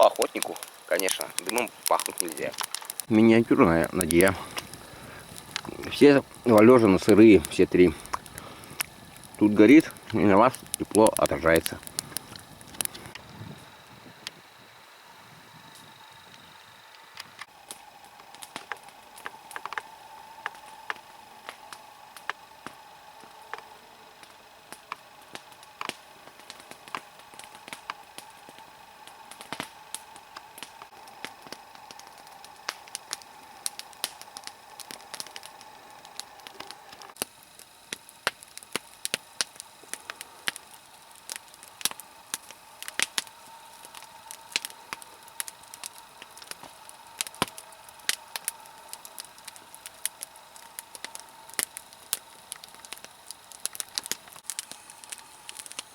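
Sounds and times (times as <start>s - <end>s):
log fire crackling and popping: 0.0s - 55.9s.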